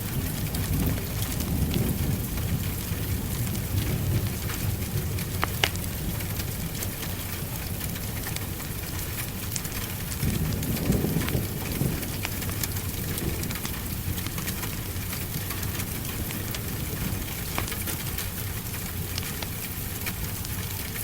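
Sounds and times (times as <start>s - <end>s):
low rumble of thunder: 0.0s - 21.0s
steady rain: 0.0s - 21.0s
wood fire crackling and popping: 0.0s - 21.0s.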